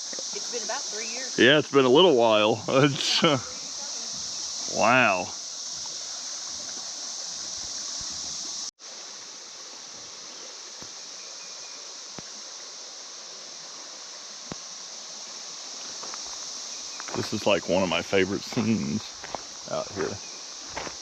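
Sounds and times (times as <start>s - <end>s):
high chorus of insects: 0.0s - 21.0s
river flowing: 0.0s - 21.0s.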